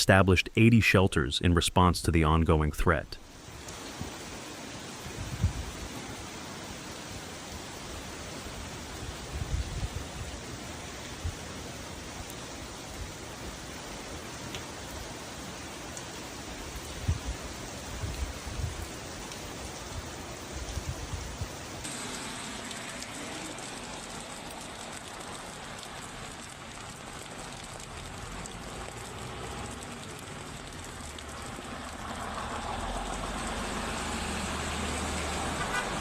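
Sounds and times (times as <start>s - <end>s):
heavy rain: 1.2s - 36.0s.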